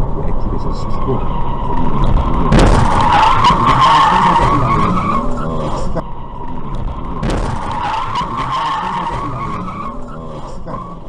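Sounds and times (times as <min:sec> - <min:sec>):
car engine: 0:00.0 - 0:11.0
tyres screeching in a skid: 0:00.3 - 0:11.0.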